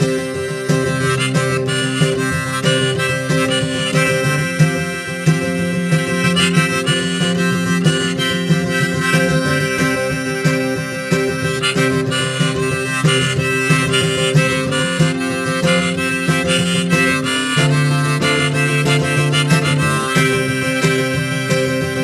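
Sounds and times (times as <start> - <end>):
harmonica held notes: 0.0 - 22.0
strummed acoustic guitar chords: 0.0 - 22.0.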